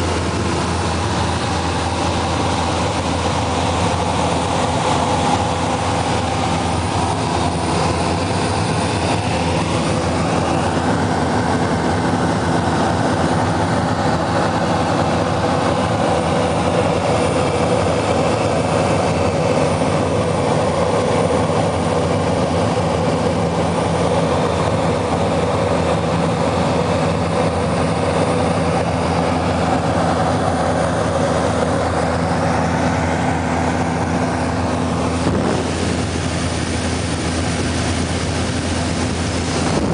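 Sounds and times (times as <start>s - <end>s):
propeller aircraft engine drone: 0.0s - 39.9s
rushing airflow: 0.0s - 39.9s.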